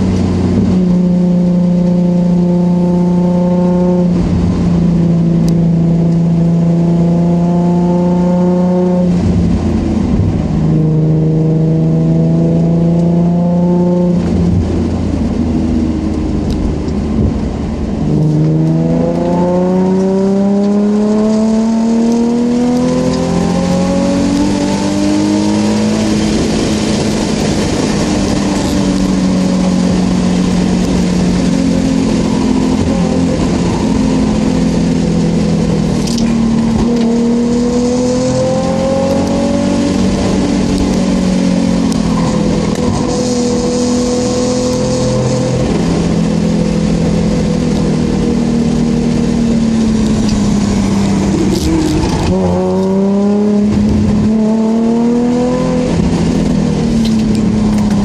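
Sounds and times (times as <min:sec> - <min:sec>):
car engine accelerating: 0:00.0 - 0:58.0
tyre and road noise: 0:00.0 - 0:58.0.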